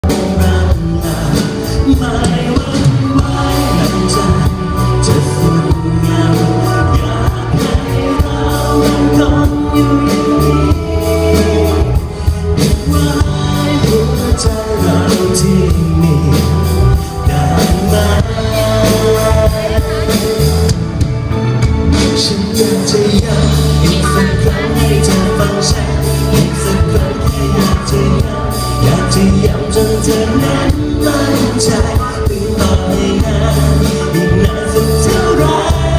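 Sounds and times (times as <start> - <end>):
live band with male singer: 0.0 - 35.9.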